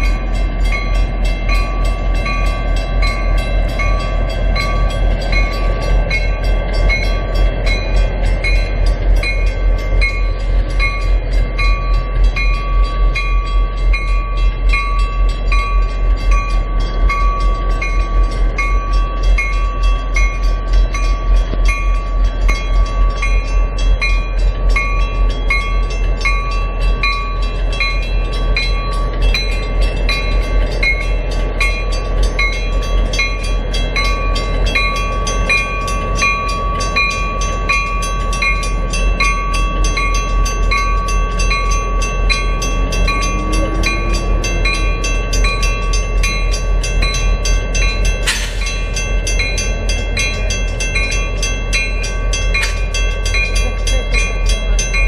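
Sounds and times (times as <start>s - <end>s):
diesel locomotive rumbling: 0.0s - 55.0s
railroad crossing bell ringing: 0.0s - 55.0s.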